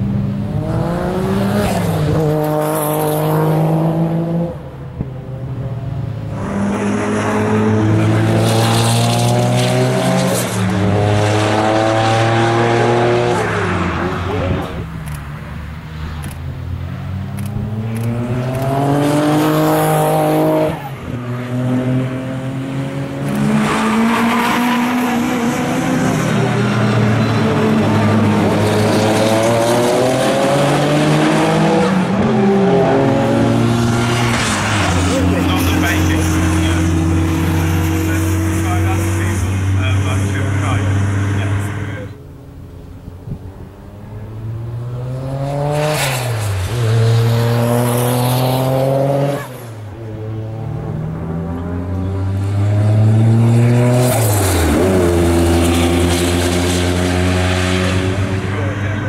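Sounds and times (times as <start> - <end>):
race car engine at full throttle: 0.0 - 59.0.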